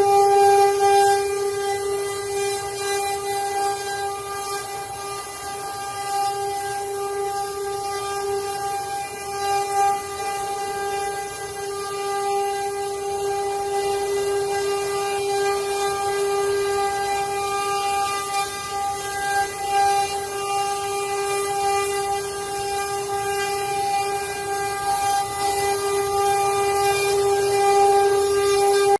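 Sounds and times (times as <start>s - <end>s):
router cutting wood: 0.0s - 28.9s
router spindle whine: 0.0s - 28.9s.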